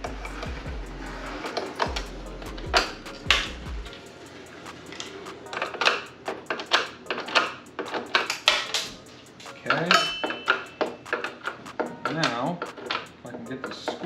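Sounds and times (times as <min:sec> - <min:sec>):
screwdriver and screws clicking: 0:01.4 - 0:14.0.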